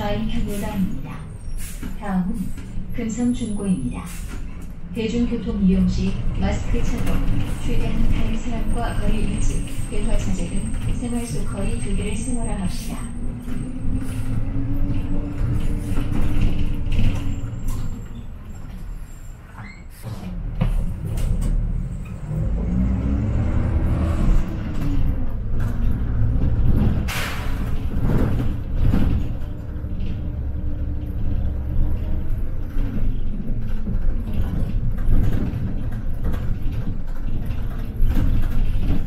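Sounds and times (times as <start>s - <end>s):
bus engine running: 0.0s - 39.0s.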